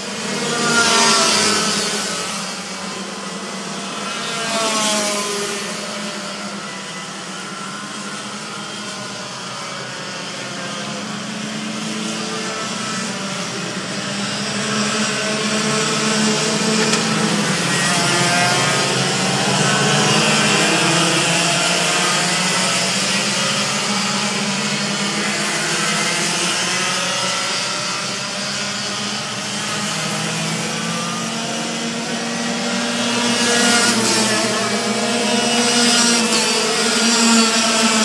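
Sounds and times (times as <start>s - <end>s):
kart engines buzzing and revving: 0.0s - 38.0s.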